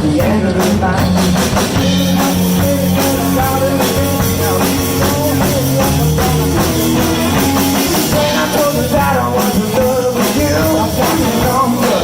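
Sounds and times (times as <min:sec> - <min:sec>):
bass guitar: 0:00.0 - 0:12.0
drum kit: 0:00.0 - 0:12.0
electric guitar playing blues: 0:00.0 - 0:12.0.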